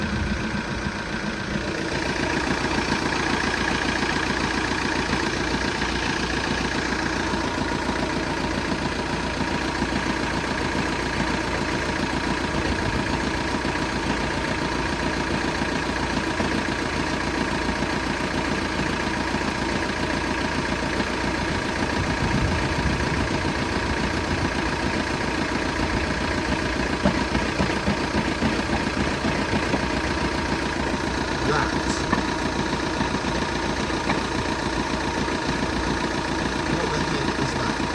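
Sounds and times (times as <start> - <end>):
engine idling with knocking: 0.0 - 37.9.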